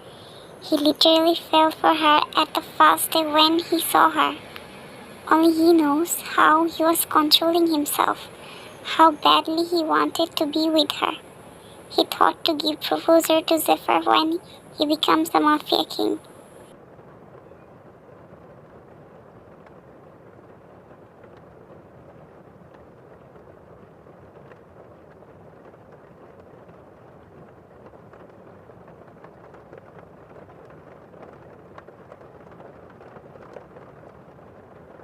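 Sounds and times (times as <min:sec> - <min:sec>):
faint ticks of raindrops: 0:00.0 - 0:35.0
rain hiss: 0:00.0 - 0:35.0.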